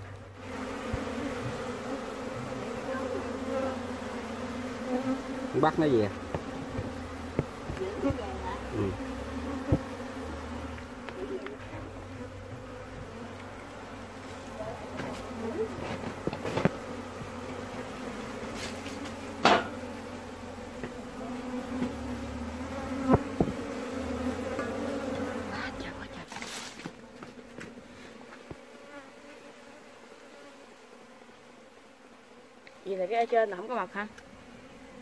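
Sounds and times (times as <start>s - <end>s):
honeybees humming: 0.0s - 35.0s.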